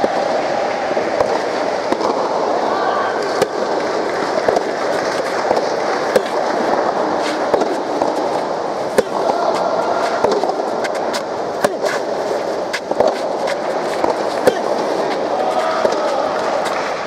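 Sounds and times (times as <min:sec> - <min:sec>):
crowd noise: 0:00.0 - 0:17.0
tennis ball hits: 0:01.0 - 0:02.4, 0:03.2 - 0:17.0.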